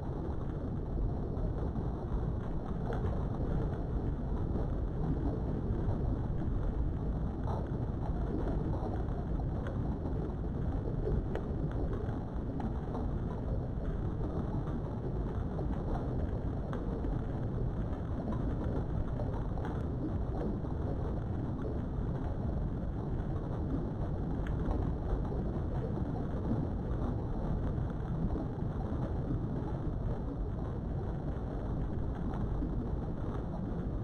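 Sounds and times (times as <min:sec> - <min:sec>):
low rumbling noise: 0:00.0 - 0:34.0.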